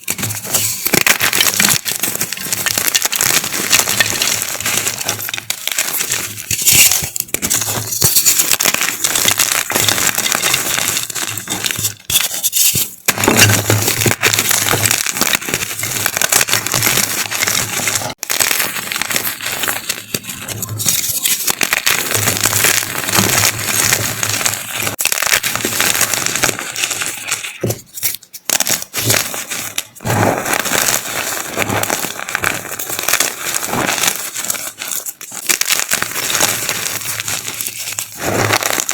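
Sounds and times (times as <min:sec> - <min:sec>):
chalk block crunching: 0:00.0 - 0:38.9.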